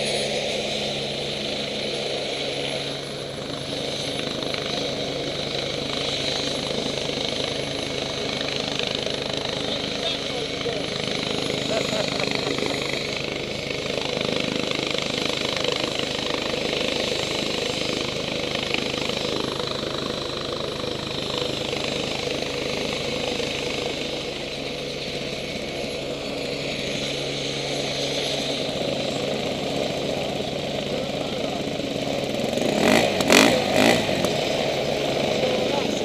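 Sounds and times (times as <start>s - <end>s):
helicopter rotor beating: 0.0s - 36.0s
helicopter turbine whine: 0.0s - 36.0s.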